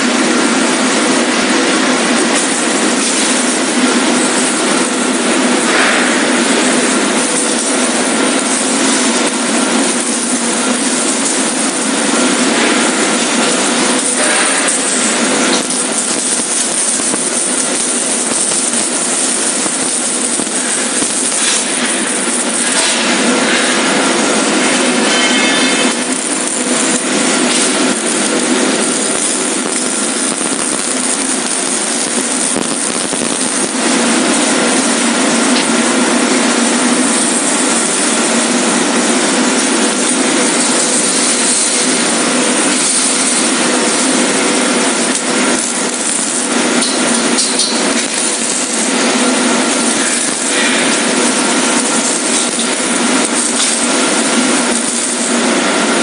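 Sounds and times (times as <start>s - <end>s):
welding hiss: 0.0s - 56.0s.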